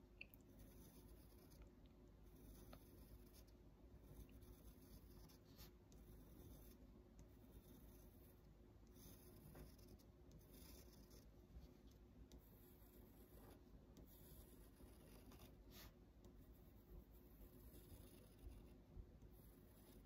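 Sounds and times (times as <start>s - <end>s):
pencil scratching on paper: 0.5s - 20.0s.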